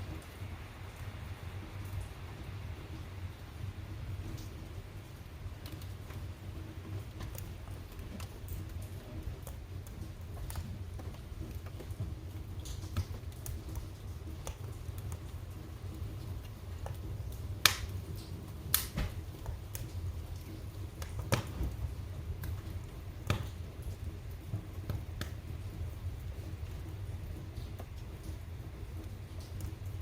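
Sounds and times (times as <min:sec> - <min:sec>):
fire crackles and pops: 0:00.0 - 0:30.0
fireplace fire low rumble: 0:00.0 - 0:30.0.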